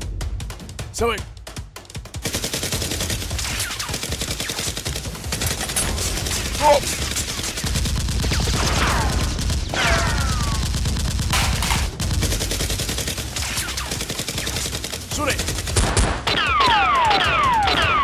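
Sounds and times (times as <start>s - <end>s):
automatic gunfire sound effects: 2.1s - 18.0s.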